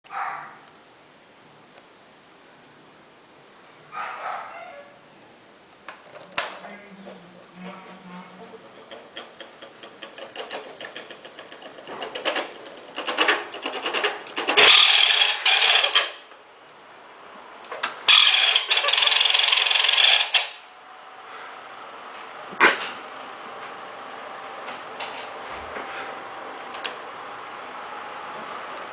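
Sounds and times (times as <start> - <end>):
electric fan rattling: 5.5 - 28.9.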